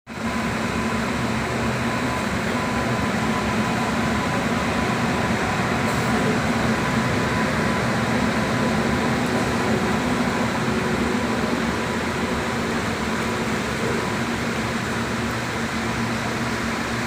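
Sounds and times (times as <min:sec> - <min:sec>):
train rumble and hum: 0:00.1 - 0:17.0.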